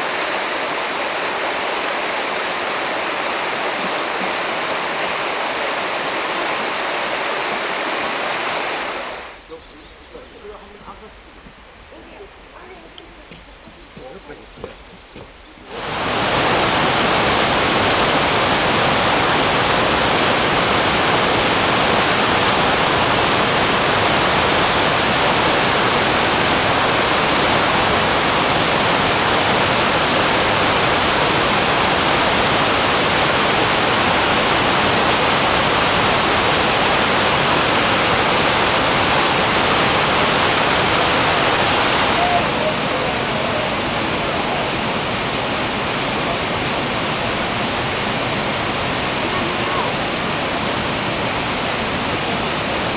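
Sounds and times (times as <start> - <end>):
water rushing over rocks: 0.0 - 52.9.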